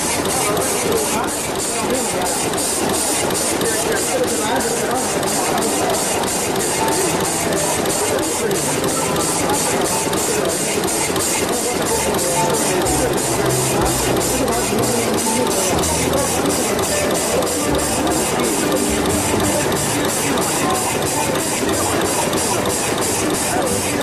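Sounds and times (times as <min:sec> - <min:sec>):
steady mechanical clatter: 0:00.0 - 0:24.0.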